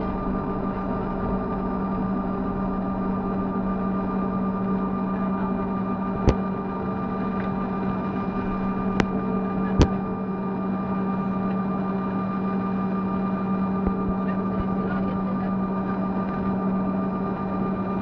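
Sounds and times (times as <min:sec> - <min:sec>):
airliner cabin hum: 0:00.0 - 0:18.0.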